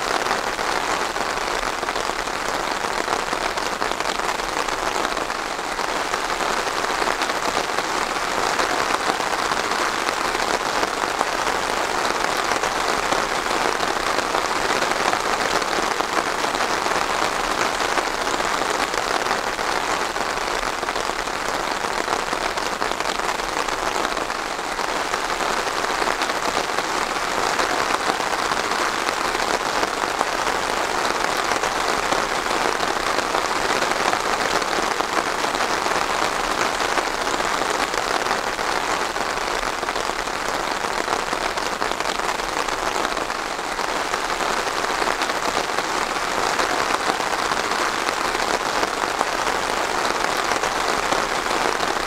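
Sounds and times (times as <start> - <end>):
rain falling on a surface: 0.0 - 52.0.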